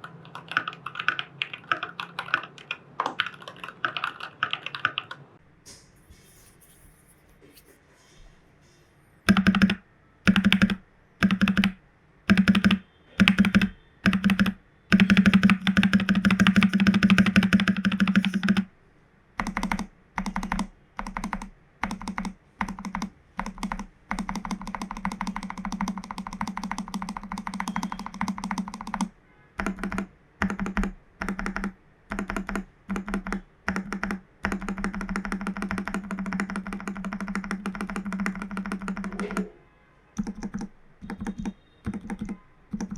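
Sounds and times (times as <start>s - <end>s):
mechanical keyboard typing: 0.0s - 5.2s, 9.3s - 18.7s, 19.4s - 39.5s, 40.2s - 42.9s.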